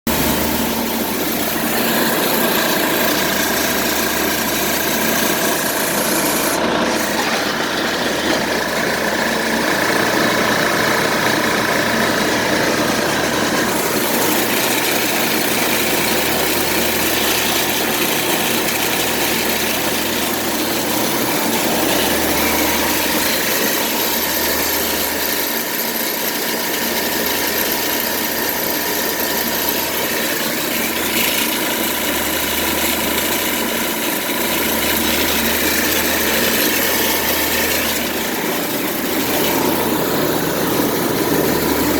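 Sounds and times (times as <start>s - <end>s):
compressor mechanical hum: 0.1s - 25.4s, 26.5s - 41.9s.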